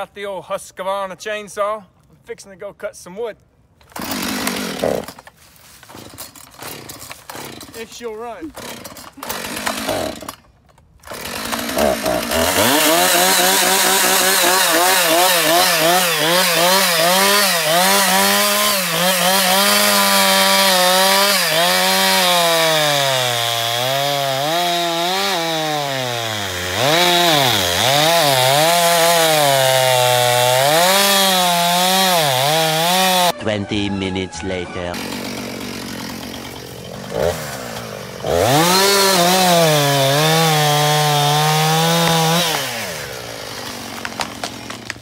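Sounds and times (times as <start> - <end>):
chainsaw sawing into wood: 3.8 - 33.4, 34.9 - 45.0.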